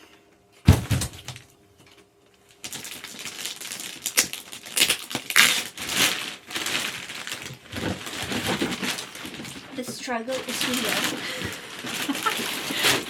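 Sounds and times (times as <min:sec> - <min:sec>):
plastic wrapping crinkling: 0:02.4 - 0:13.0.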